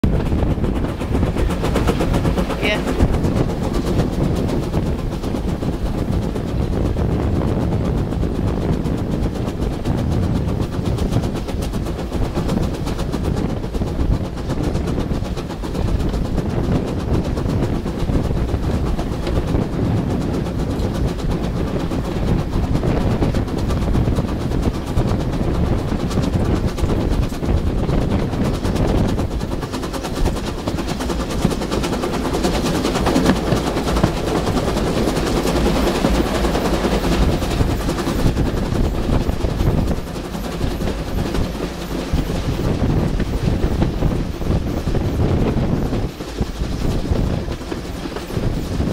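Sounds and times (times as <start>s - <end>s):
steam locomotive exhaust beats: 0.0s - 48.9s
train rattling on track: 0.0s - 48.9s.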